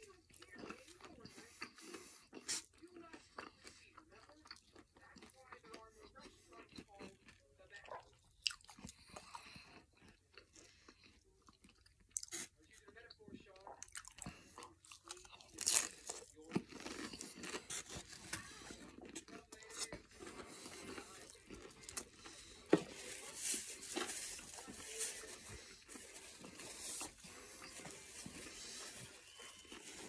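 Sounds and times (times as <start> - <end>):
crunchy taco being chewed: 0.0 - 30.0.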